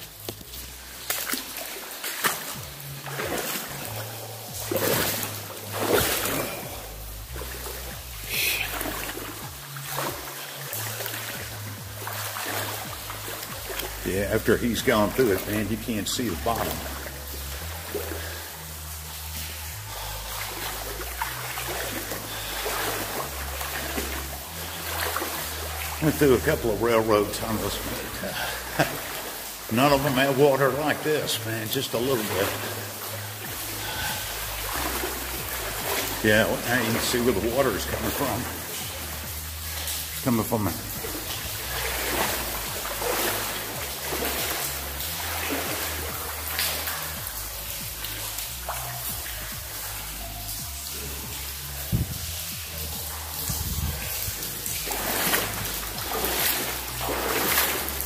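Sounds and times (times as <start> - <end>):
low music drone: 0.0 - 58.0
wading through water: 0.0 - 58.0.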